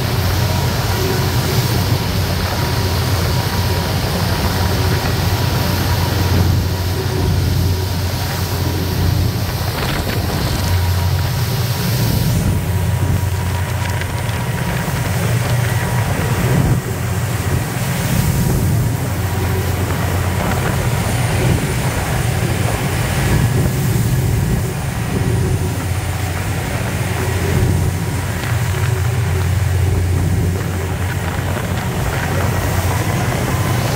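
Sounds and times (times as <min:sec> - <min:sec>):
boat engines droning: 0:00.0 - 0:33.9
water splashing along hull: 0:00.0 - 0:33.9.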